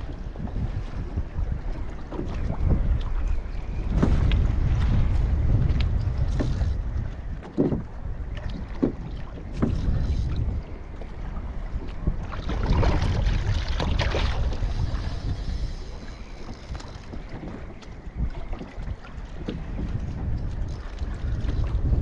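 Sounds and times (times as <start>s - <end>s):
water noise: 0.0s - 22.0s
wind rumbling on microphone: 0.0s - 22.0s.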